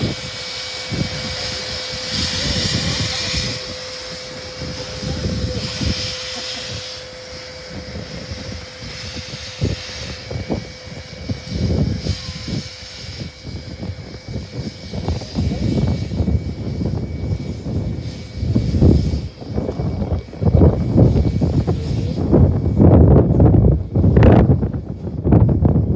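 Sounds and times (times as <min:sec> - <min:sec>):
steady hum: 0:00.0 - 0:25.9
steam hissing: 0:00.0 - 0:25.9
steam locomotive exhaust chuffing: 0:00.0 - 0:25.9.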